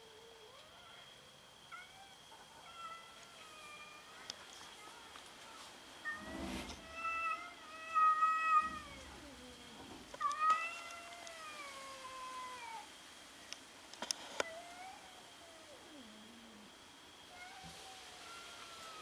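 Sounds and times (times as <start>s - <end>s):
cats yowling: 0.0s - 4.3s, 6.0s - 12.9s, 14.4s - 19.0s.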